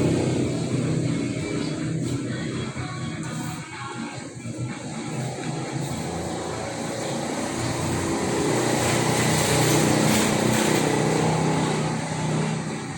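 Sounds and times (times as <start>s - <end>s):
motor humming: 0.0s - 12.9s.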